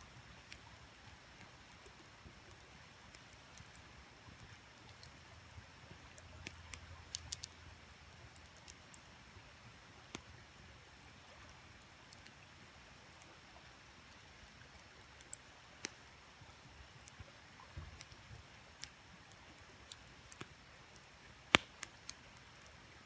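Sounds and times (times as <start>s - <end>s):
campfire crackling and popping: 0.1s - 23.0s.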